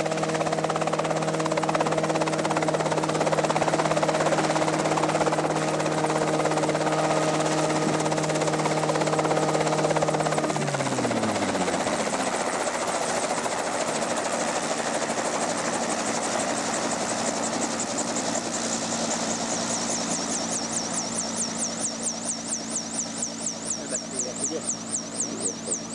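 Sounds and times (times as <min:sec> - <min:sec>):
engine running: 0:00.0 - 0:25.9
rotor pulsing: 0:00.0 - 0:25.9.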